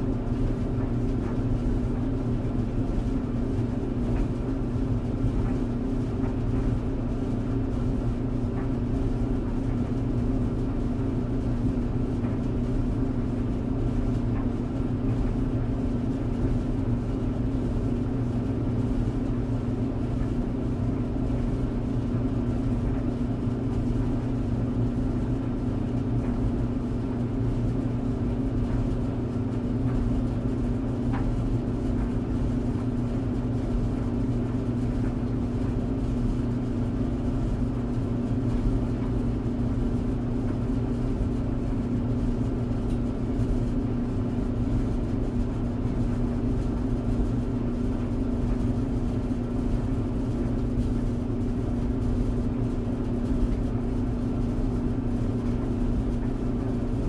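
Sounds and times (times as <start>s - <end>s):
clothes dryer running: 0.0s - 57.0s.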